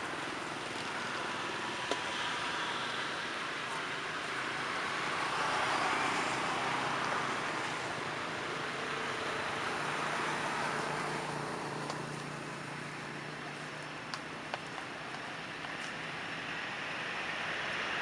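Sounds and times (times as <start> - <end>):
road traffic rushing: 0.0 - 18.0.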